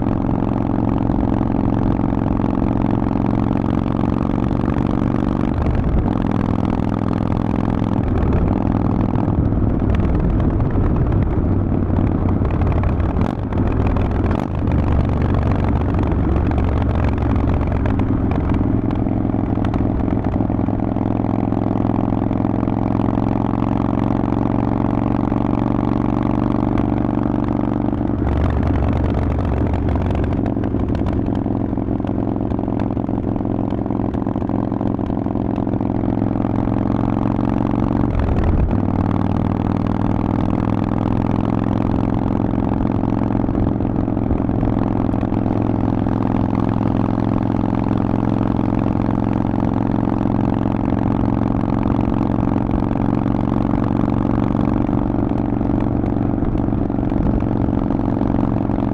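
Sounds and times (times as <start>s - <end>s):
motorcycle engine riding: 0.0s - 58.9s.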